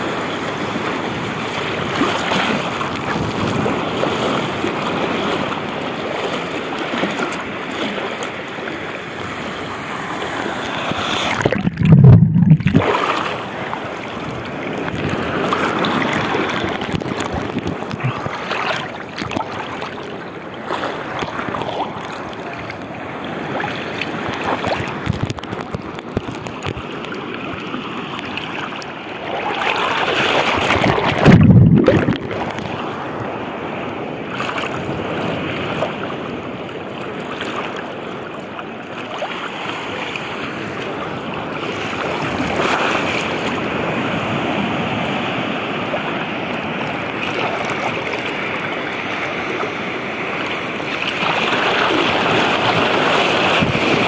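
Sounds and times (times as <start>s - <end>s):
water sloshing and lapping: 0.0s - 54.0s
water surging: 0.0s - 54.0s.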